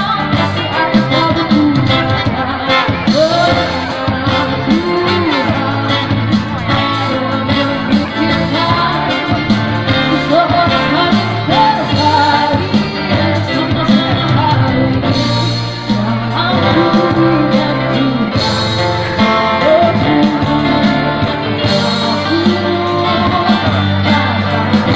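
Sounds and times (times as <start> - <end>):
guitars: 0.0 - 24.9
person singing: 0.0 - 24.9
steady beat: 0.0 - 24.9.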